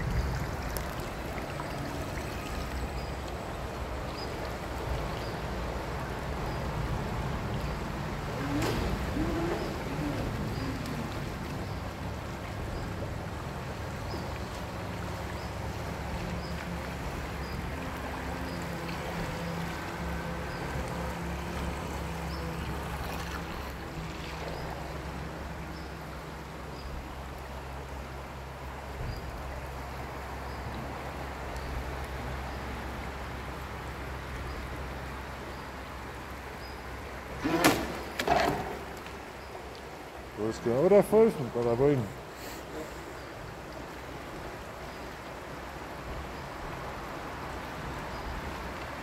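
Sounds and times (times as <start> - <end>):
river water rushing: 0.0 - 49.0.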